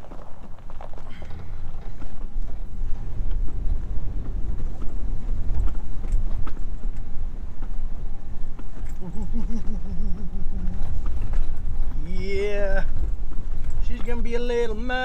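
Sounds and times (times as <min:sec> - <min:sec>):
knocks and rattles over bumps: 0:00.0 - 0:15.0
truck engine and tyres rumbling: 0:00.0 - 0:15.0.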